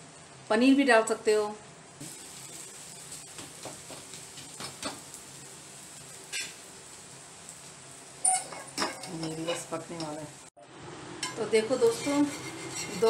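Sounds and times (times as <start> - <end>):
faint sizzling on a griddle: 0.0 - 13.0.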